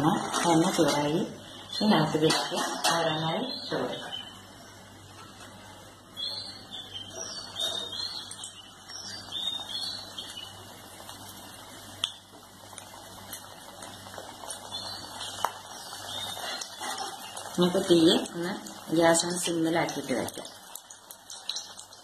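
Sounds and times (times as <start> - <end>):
patties sizzling in hot oil: 0.0 - 22.0.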